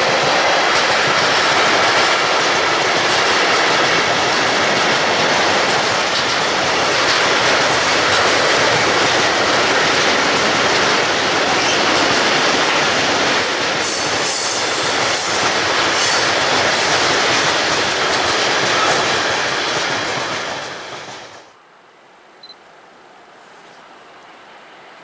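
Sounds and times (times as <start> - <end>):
freight train wheels on rails: 0.0 - 21.5.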